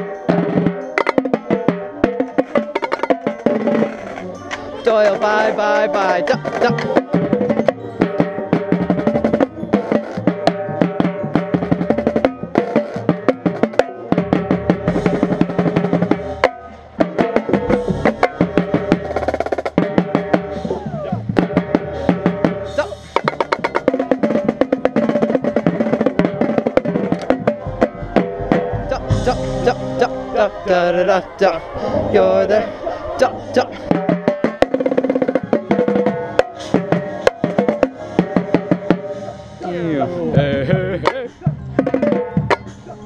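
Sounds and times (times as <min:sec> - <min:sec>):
marching tenor drums: 0:00.0 - 0:04.2, 0:04.9 - 0:30.6, 0:33.2 - 0:39.7, 0:40.3 - 0:42.6
marching band music: 0:00.0 - 0:43.0.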